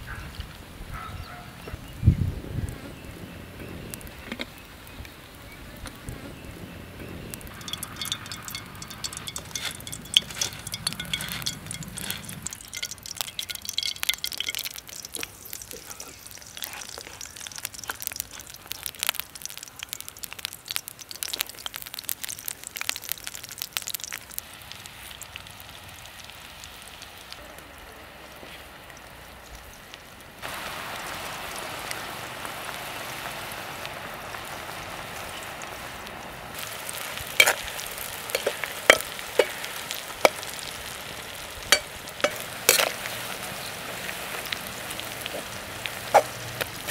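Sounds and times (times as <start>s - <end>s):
slices deep-frying sizzle: 0.0s - 46.9s
oil crackling and popping: 3.6s - 46.9s.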